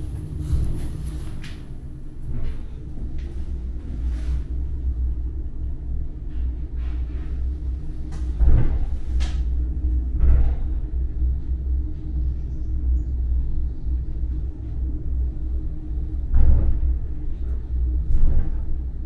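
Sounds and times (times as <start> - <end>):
funicular car rumbling on track: 0.0 - 19.0.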